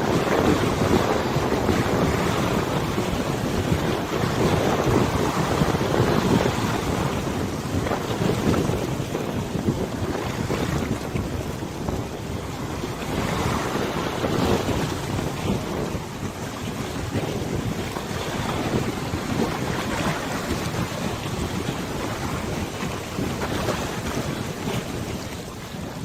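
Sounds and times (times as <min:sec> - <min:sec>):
choppy water splashing: 0:00.0 - 0:26.0
wind buffeting microphone: 0:00.0 - 0:26.0.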